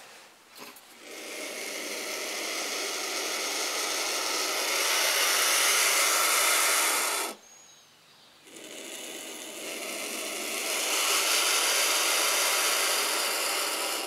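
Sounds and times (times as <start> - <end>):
vultures hissing: 0.0 - 7.4, 8.4 - 14.0.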